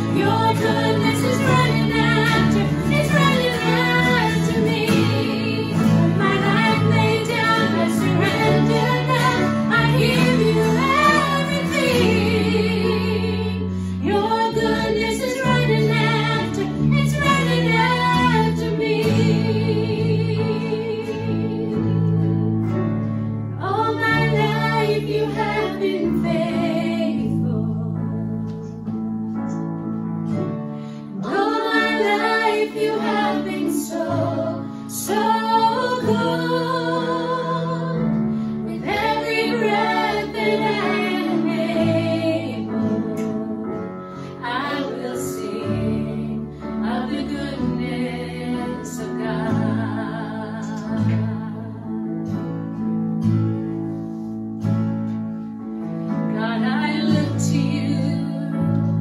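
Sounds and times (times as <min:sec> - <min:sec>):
women singing together: 0:00.0 - 0:22.8, 0:23.6 - 0:28.5, 0:31.2 - 0:51.9, 0:56.3 - 0:59.0
acoustic guitars: 0:00.0 - 0:59.0
keyboard chords: 0:00.0 - 0:59.0.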